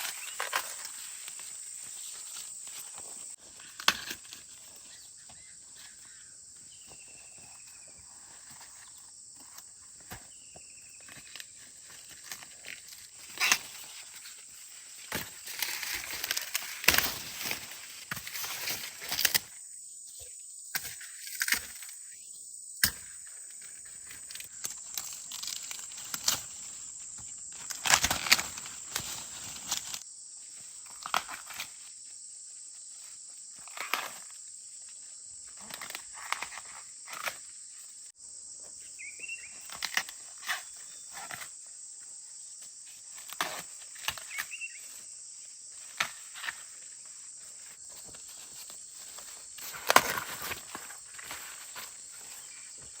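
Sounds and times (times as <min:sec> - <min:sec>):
dry corn plants rustling: 0:00.0 - 0:19.6, 0:23.1 - 0:38.1, 0:42.6 - 0:53.0.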